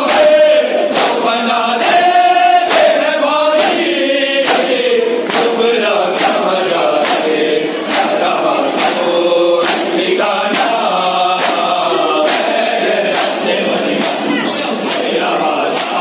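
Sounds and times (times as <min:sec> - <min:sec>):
hands beating chests: 0:00.0 - 0:16.0
men's chorus singing a lament: 0:00.0 - 0:16.0.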